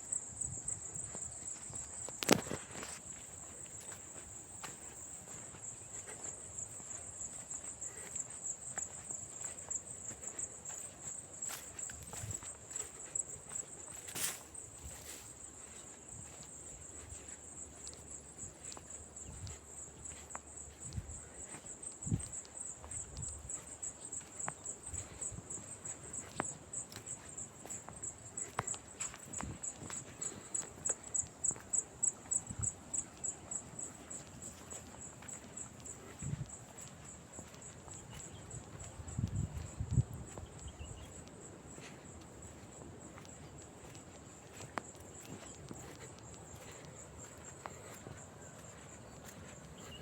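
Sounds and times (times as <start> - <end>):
crickets trilling: 0.0 - 50.0
high insect chirping: 0.0 - 50.0.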